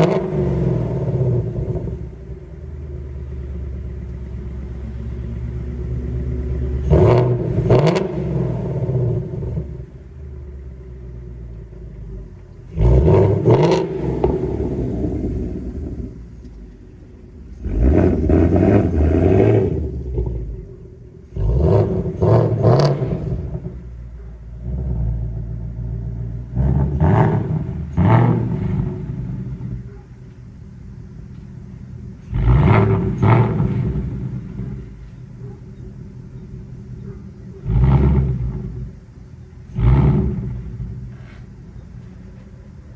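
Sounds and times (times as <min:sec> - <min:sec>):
car engine idling: 0:00.0 - 0:42.9
car engine revving in blips: 0:00.0 - 0:42.9.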